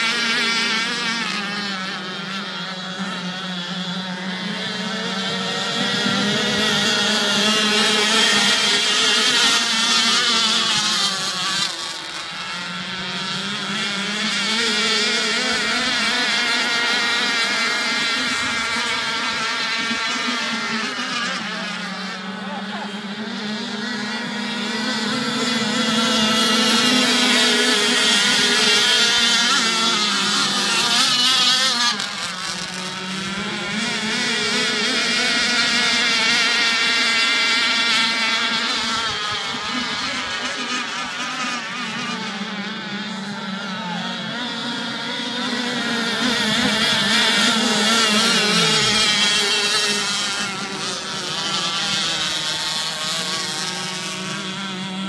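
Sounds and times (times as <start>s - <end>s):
rc boat engines buzzing: 0.0s - 55.0s.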